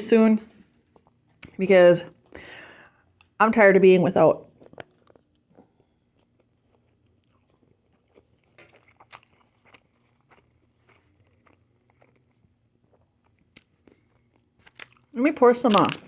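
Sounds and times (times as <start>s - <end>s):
chewing and crunching food: 0.6s - 3.4s, 4.4s - 16.0s.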